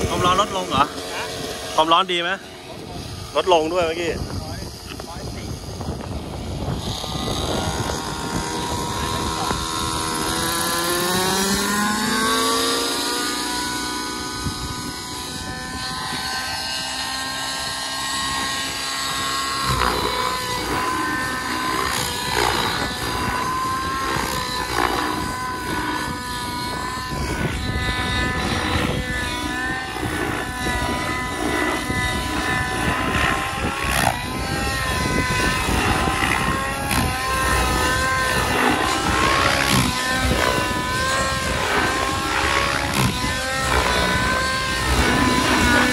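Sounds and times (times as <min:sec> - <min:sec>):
model helicopter engine and rotors: 0:00.0 - 0:45.9.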